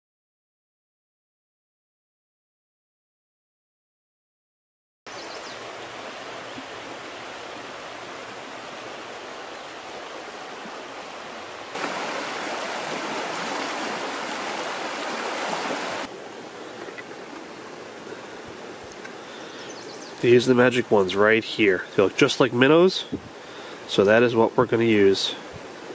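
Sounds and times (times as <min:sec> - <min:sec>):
river water rushing: 0:05.1 - 0:25.9.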